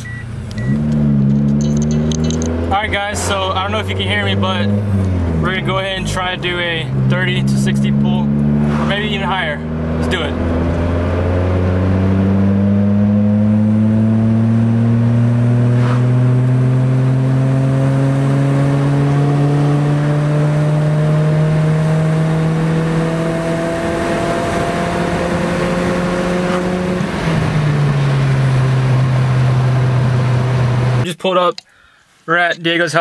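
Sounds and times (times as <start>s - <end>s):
car engine accelerating: 0.0s - 31.1s
transmission shifting up: 0.0s - 31.7s.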